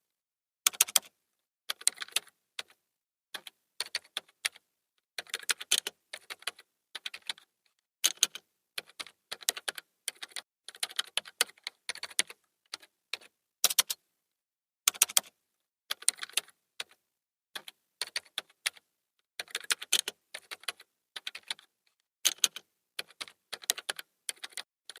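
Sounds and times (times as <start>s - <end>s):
computer keyboard typing: 0.7s - 1.1s, 1.7s - 2.8s, 3.4s - 4.6s, 5.2s - 14.0s, 14.9s - 17.0s, 17.6s - 18.8s, 19.4s - 21.7s, 22.3s - 25.0s.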